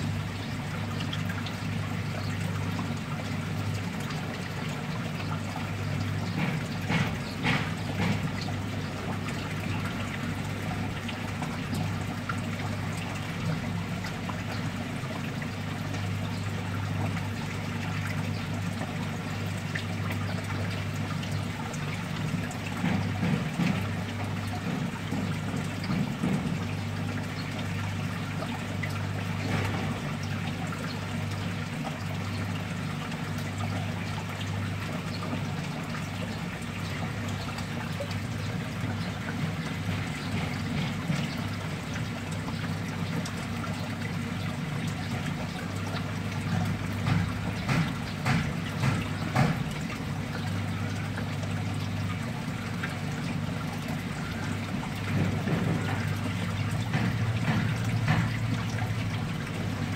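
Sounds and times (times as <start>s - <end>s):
water trickling in a tank: 0.0s - 59.9s.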